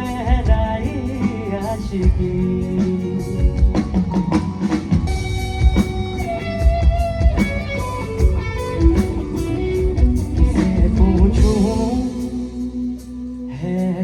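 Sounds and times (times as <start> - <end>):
drum kit beat: 0.0 - 14.0
guitar melody: 0.0 - 14.0.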